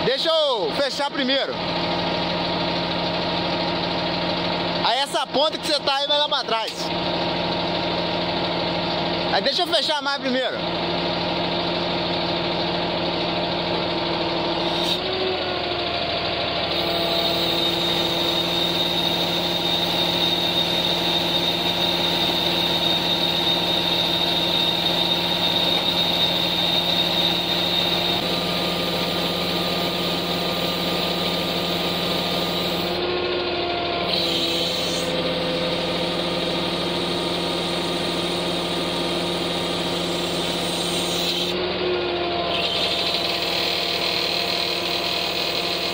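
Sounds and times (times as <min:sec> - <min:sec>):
hydraulic high whine: 0:00.0 - 0:45.9
truck engine running: 0:00.0 - 0:45.9.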